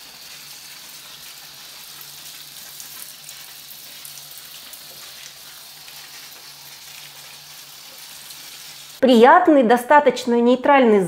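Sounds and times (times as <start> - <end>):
shower spray hissing: 0.0 - 9.0.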